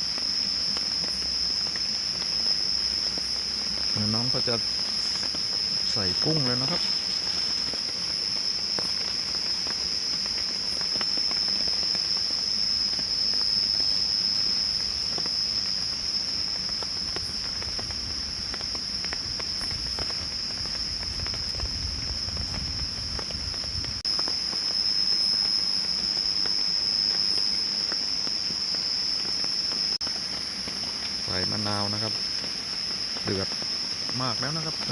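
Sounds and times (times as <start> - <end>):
night insects droning: 0.0 - 34.9.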